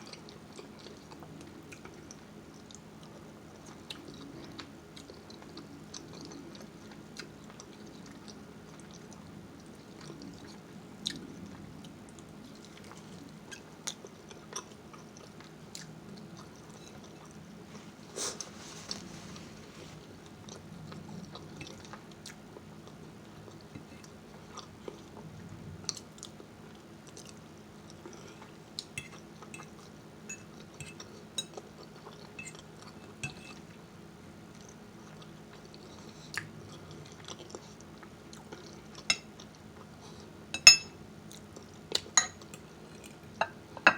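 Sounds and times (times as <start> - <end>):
person chewing food: 0.0 - 25.3, 25.9 - 33.8, 34.5 - 43.9
low room hum: 0.0 - 43.9.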